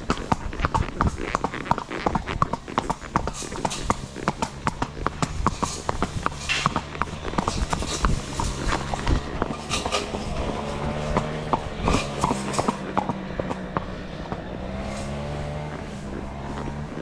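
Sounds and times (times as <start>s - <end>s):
horse hooves stepping: 0.0s - 17.0s
steady engine-like drone: 3.4s - 17.0s.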